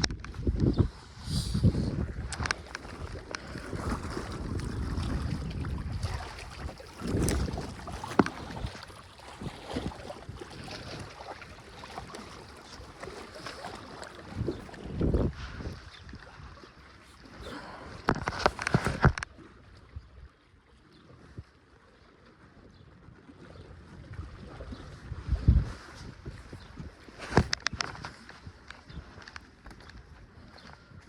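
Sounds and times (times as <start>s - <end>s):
wind rumbling on microphone: 0.0s - 21.5s, 22.7s - 31.0s.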